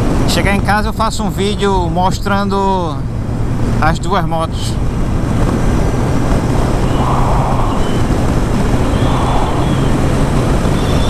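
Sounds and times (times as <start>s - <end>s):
wind rushing over microphone: 0.0s - 11.0s
motorcycle engine cruising: 1.4s - 11.0s.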